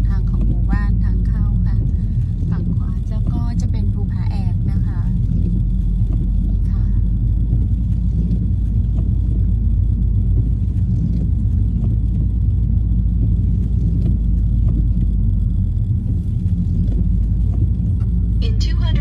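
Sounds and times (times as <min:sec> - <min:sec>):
car engine rumble: 0:00.0 - 0:19.0
tyres on wet road: 0:00.0 - 0:19.0.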